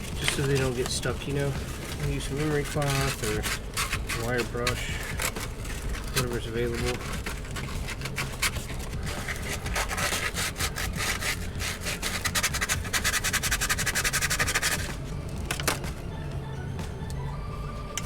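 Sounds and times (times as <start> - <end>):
abrasive scraping metal pin: 0.1 - 15.8.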